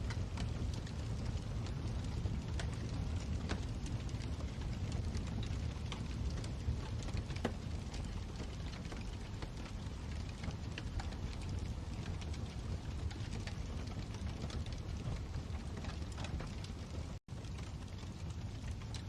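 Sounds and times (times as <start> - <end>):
burning logs crackling: 0.0 - 19.0
low rumble of flames: 0.0 - 19.0.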